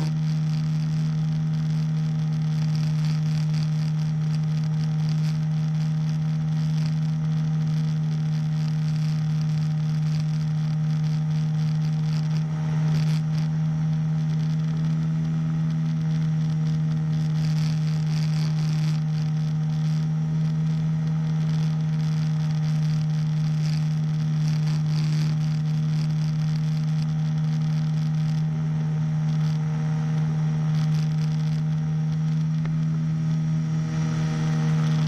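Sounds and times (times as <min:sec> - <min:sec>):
small engine droning: 0:00.0 - 0:35.0.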